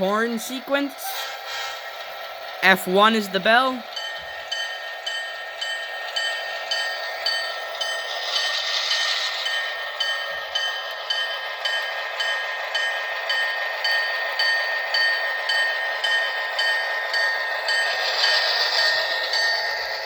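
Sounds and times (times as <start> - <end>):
locomotive bell ringing: 0.0 - 1.4, 2.6 - 20.0.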